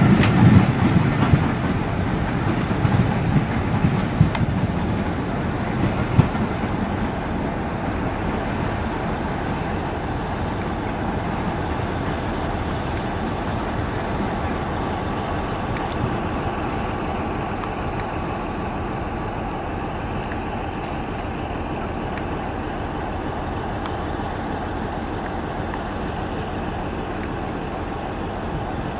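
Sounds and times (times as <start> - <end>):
train rumbling: 0.0 - 28.9.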